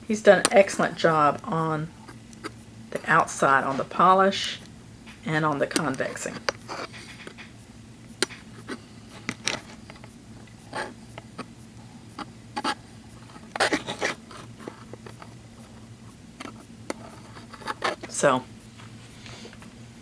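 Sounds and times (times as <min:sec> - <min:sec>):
shears clicking: 0:00.4 - 0:19.7.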